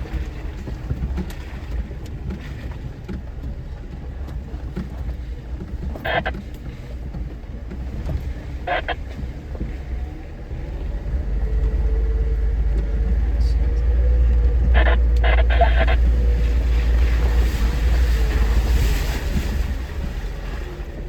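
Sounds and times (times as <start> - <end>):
vehicle engine and tyres rumbling: 0.0 - 21.0.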